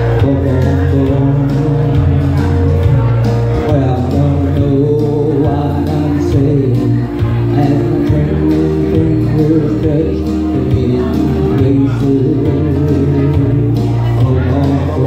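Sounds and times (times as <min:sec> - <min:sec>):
backing track with bass: 0:00.0 - 0:15.0
man singing into microphone: 0:00.0 - 0:15.0.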